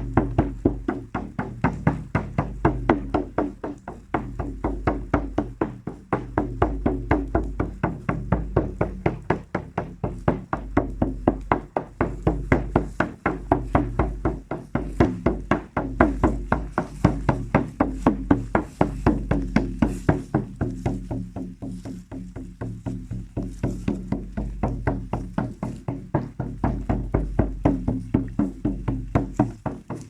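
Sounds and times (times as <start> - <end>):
drum beating steadily: 0.0 - 30.0.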